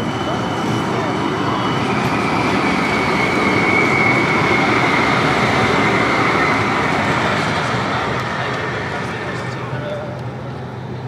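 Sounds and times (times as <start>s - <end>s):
tram high whine: 0.0s - 11.0s
tram wheels rumbling on rail: 0.0s - 11.0s.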